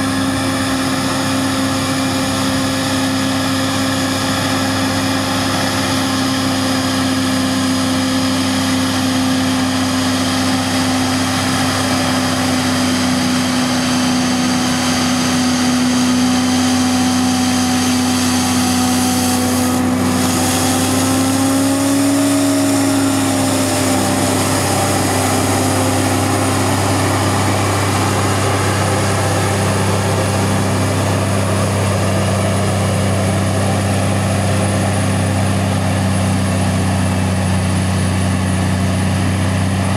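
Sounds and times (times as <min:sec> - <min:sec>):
forage harvester engine drone: 0:00.0 - 0:39.9.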